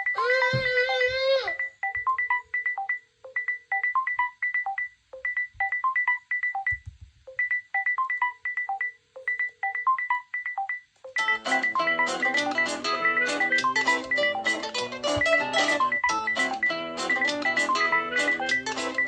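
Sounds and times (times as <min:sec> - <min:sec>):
smartphone ringtone: 0:00.0 - 0:06.7, 0:07.8 - 0:19.0.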